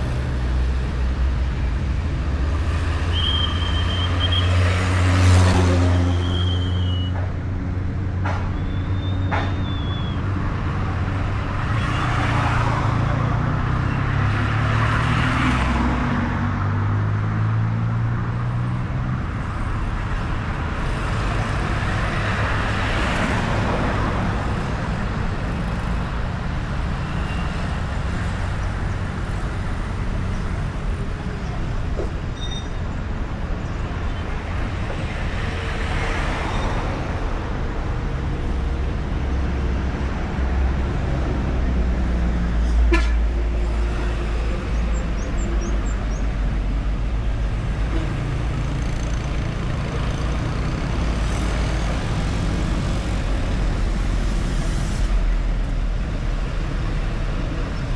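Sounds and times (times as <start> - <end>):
cars and motorbikes passing: 0.0 - 57.9.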